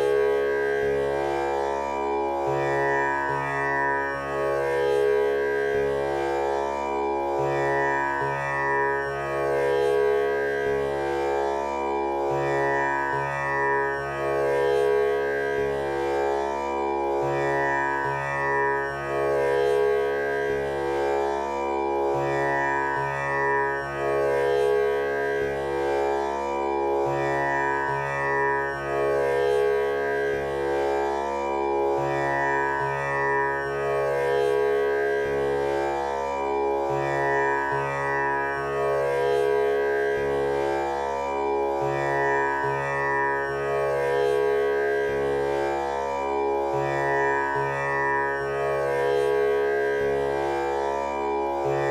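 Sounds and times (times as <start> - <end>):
tanpura drone: 0.0 - 51.9.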